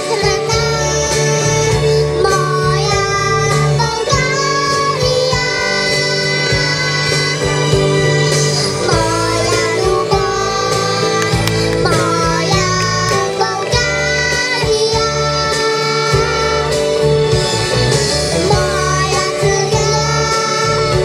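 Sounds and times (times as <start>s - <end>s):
girls singing into microphones: 0.0s - 17.5s, 18.4s - 21.0s
instrumental backing music: 0.0s - 21.0s.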